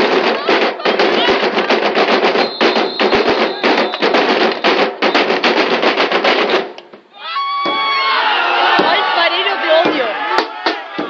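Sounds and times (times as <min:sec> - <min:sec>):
group playing hand drums: 0:00.0 - 0:07.0, 0:08.8 - 0:11.0.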